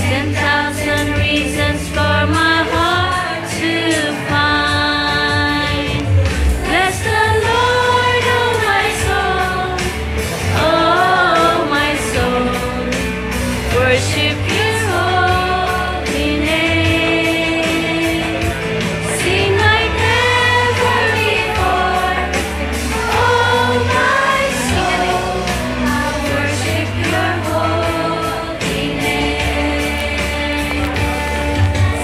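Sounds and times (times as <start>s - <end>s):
upbeat worship song: 0.0s - 32.0s.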